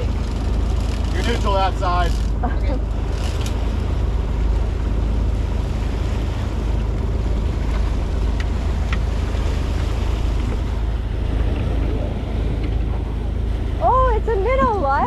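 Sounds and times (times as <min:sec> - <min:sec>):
boat engine rumble: 0:00.0 - 0:15.0
water rushing along hull: 0:00.0 - 0:15.0.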